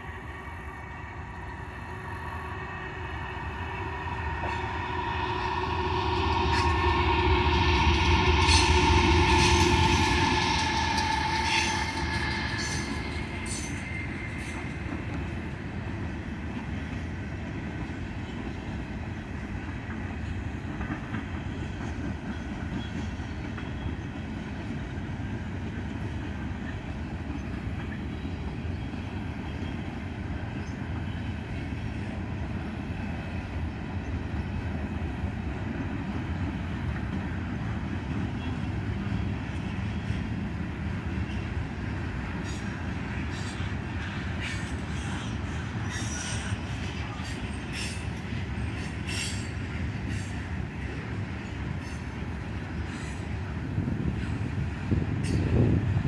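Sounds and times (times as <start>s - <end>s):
freight train rolling on rails: 0.0s - 56.0s.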